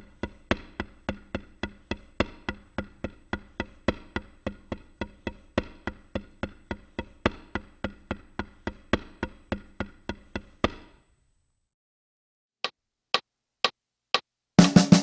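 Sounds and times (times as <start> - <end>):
drumsticks tapping practice pad: 0.0 - 11.1, 12.6 - 15.0.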